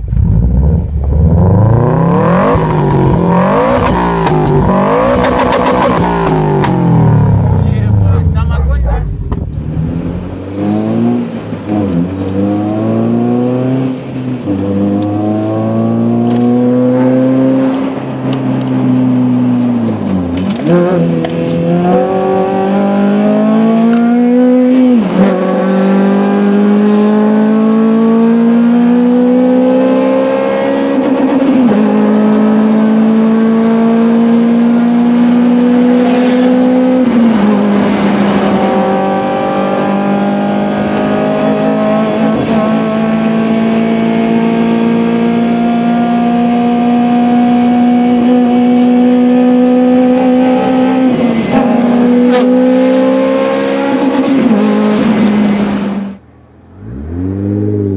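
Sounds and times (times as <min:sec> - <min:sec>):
car engine accelerating through gears: 0:00.0 - 0:57.9.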